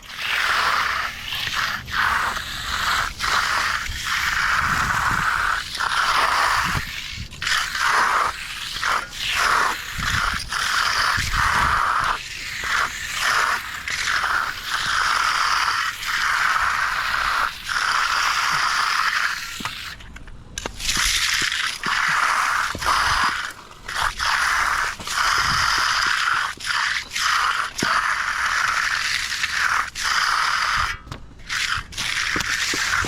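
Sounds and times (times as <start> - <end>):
hand tool scraping fresh concrete: 0.0 - 20.0, 20.6 - 33.0.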